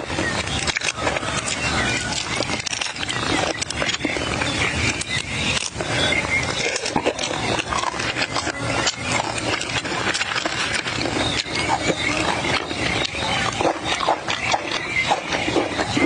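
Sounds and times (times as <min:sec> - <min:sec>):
person chewing with wet smacking: 0:00.2 - 0:16.0.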